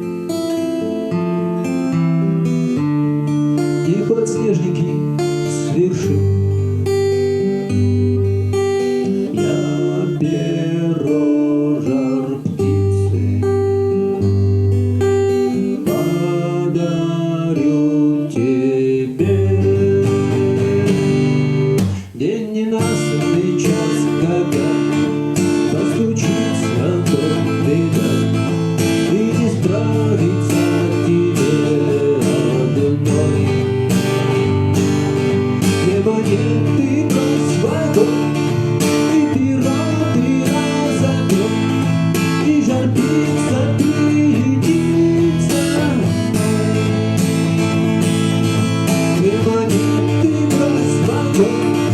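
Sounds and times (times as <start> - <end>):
acoustic guitar strumming chords: 0.0 - 51.9.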